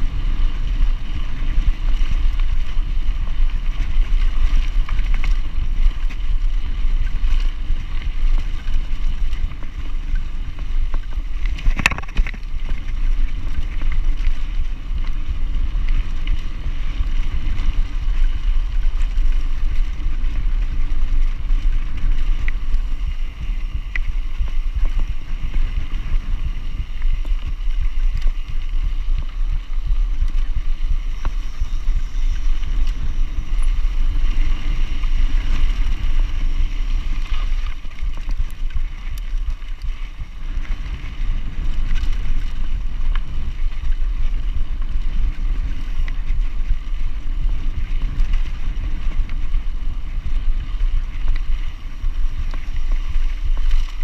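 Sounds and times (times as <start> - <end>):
bike rolling on dirt track: 0.0 - 54.0
wind buffeting microphone: 0.0 - 54.0.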